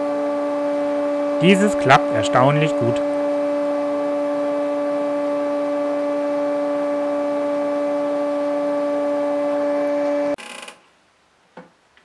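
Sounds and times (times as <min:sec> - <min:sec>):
electric motor humming: 0:00.0 - 0:10.4.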